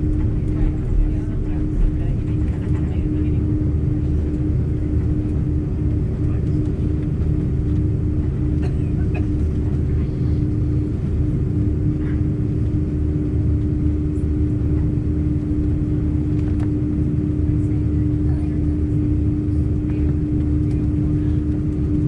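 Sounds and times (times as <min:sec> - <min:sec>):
airliner low rumble and hum: 0:00.0 - 0:22.0.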